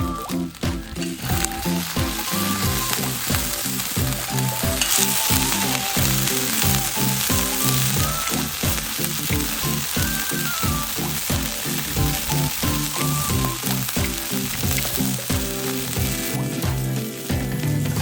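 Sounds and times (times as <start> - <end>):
background music with a beat: 0.0 - 18.0
food sizzling on a griddle: 0.0 - 18.0.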